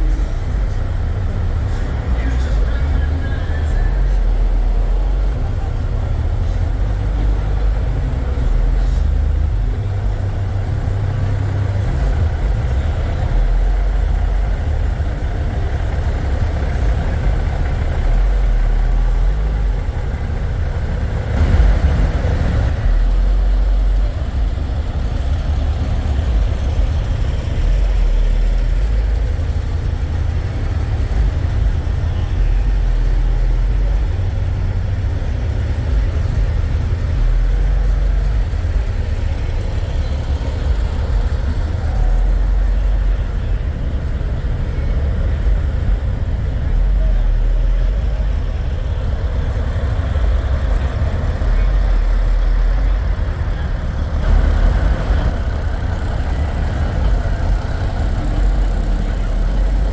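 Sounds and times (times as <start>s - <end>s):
diesel truck engines idling: 0.0s - 59.9s.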